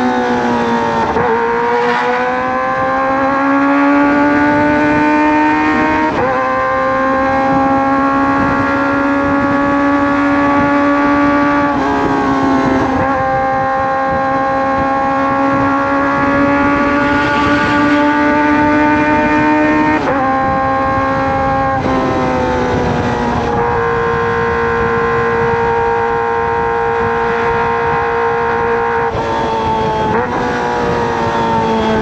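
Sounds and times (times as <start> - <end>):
wind rush: 0.0 - 32.0
motorcycle engine running: 2.4 - 32.0.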